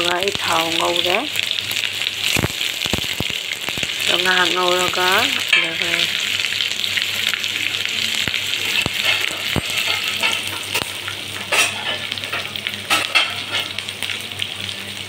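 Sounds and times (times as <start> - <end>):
oil popping and crackling: 0.0 - 15.0
onions sizzling in hot oil: 0.0 - 15.0.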